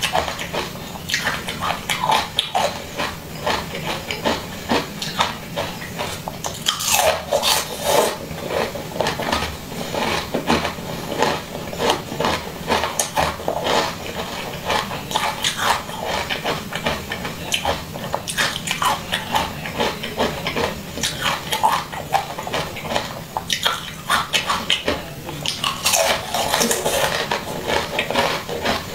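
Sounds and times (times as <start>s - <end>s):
wet chewing and mouth sounds: 0.0s - 28.9s.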